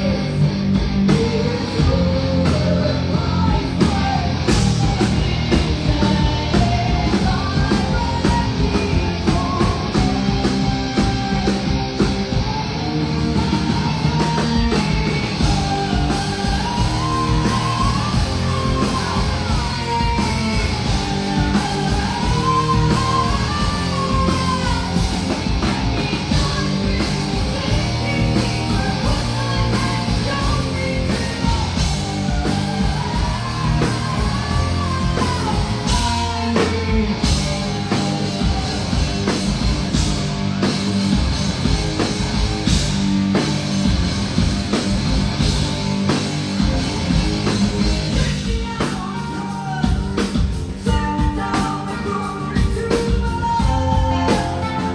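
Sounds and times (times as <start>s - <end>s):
hard rock band playing: 0.0s - 54.9s
person singing: 1.0s - 39.4s, 48.0s - 54.9s.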